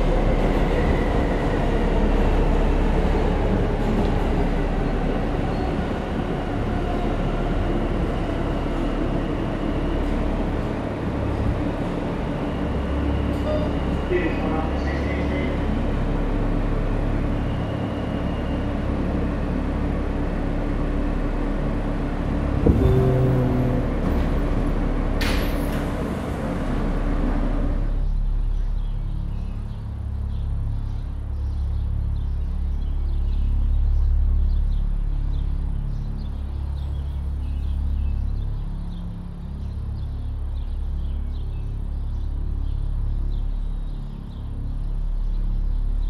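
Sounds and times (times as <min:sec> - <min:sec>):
low outdoor rumble: 0:00.0 - 0:46.0
subway train rumble: 0:00.0 - 0:46.0.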